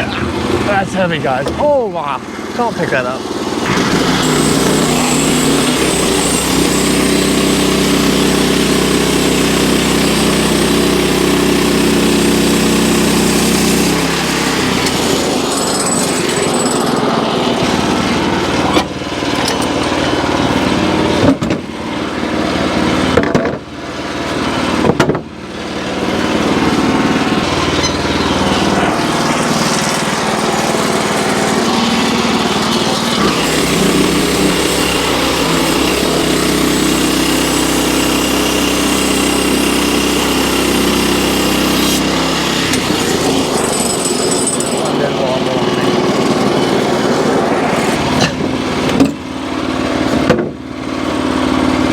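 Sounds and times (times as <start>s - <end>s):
gas engine running: 0.0s - 51.9s.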